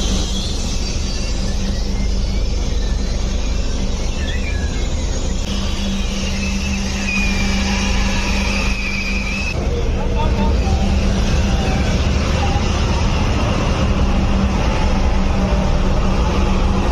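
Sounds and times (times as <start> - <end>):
low engine drone: 0.0 - 16.9.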